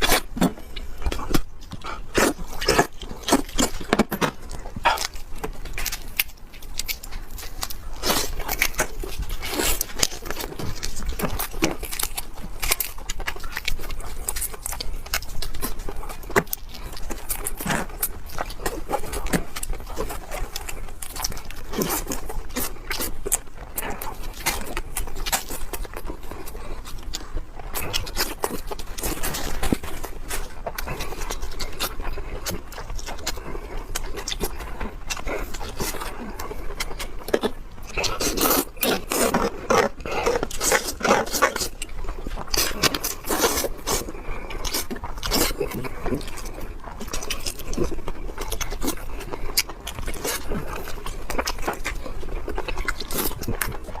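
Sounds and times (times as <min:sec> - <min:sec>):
chewing and mouth noises: 0:00.0 - 0:54.0.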